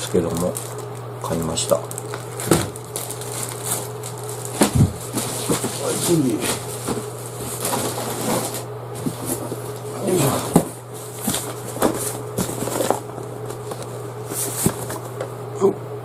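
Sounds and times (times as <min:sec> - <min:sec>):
gear rustling and clattering: 0:00.0 - 0:15.1
steady low hum: 0:00.0 - 0:16.0.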